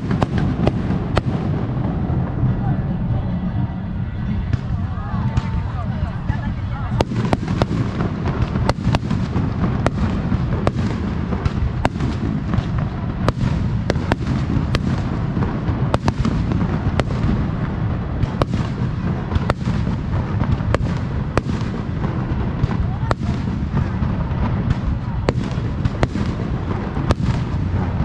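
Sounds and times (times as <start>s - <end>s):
fireworks cracking: 0.0s - 28.0s.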